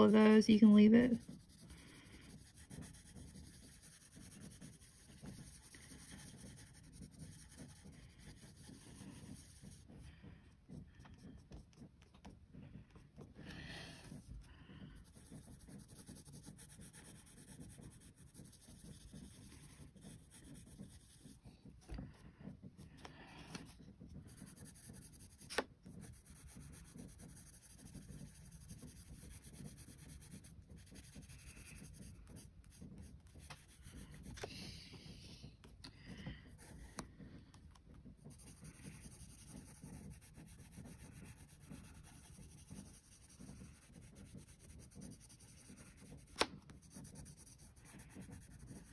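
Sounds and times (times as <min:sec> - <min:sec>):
pencil scratching on paper: 0:00.0 - 0:22.2, 0:22.9 - 0:35.4, 0:36.3 - 0:37.1, 0:38.2 - 0:48.9.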